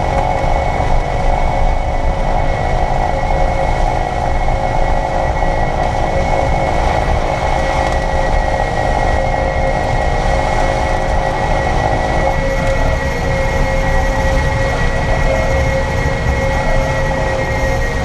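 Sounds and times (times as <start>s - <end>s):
drivetrain whirring whine: 0.0s - 18.0s
low road rumble: 0.0s - 18.0s.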